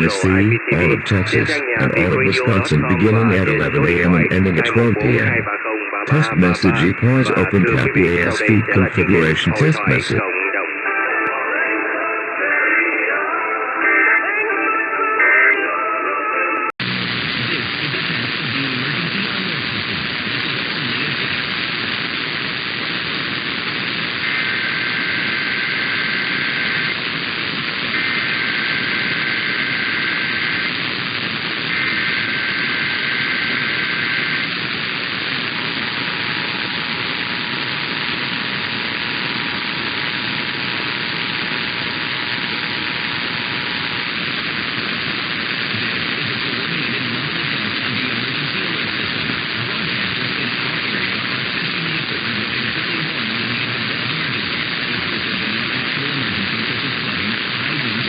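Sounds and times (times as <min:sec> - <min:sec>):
radio static hiss: 0:00.0 - 0:11.4, 0:16.8 - 0:58.0.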